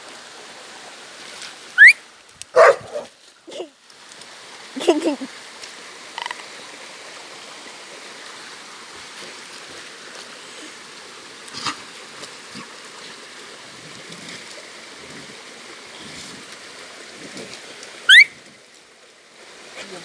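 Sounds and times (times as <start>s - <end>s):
trickling creek: 0.0s - 20.0s.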